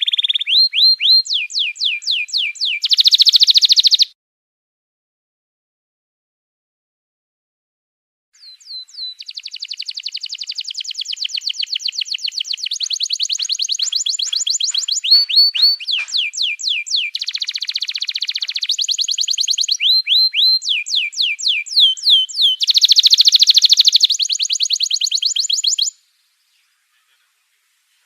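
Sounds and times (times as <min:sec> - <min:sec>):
songbird singing: 0:00.0 - 0:04.2, 0:08.4 - 0:28.0.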